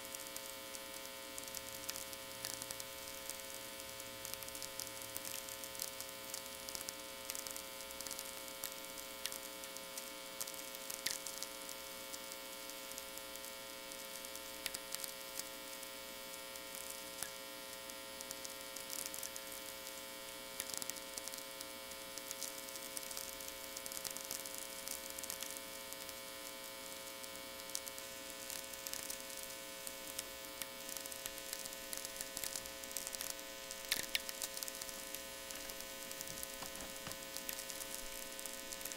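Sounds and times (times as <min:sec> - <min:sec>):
crackling radio static clicks: 0:00.0 - 0:20.0, 0:20.6 - 0:38.9.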